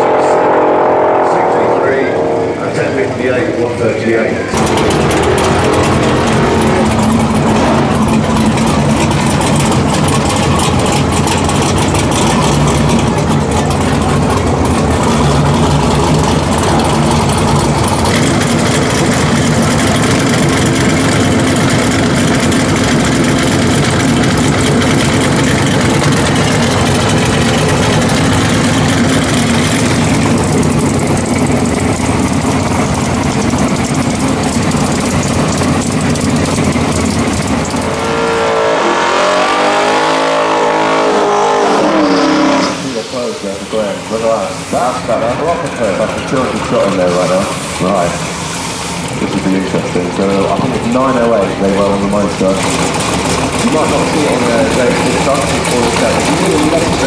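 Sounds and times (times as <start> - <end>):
engine revving hard: 0.0 - 3.5, 4.5 - 48.2, 49.3 - 57.0
car engine idling loudly: 0.0 - 57.0.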